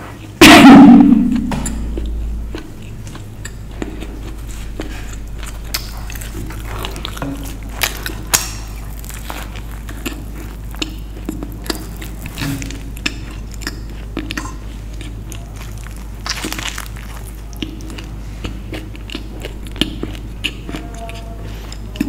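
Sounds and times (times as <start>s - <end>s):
steady low hum: 0.0s - 22.0s
chewing mouth clicks and smacks: 1.6s - 22.0s
biting into burger: 1.8s - 22.0s.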